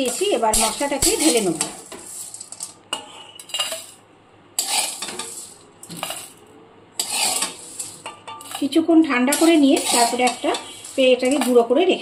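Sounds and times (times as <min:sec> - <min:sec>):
metal spatula scraping pan: 0:00.0 - 0:04.0, 0:04.6 - 0:06.4, 0:07.0 - 0:12.0
spices rattling onto steel plate: 0:00.0 - 0:04.0, 0:04.6 - 0:06.4, 0:07.0 - 0:12.0.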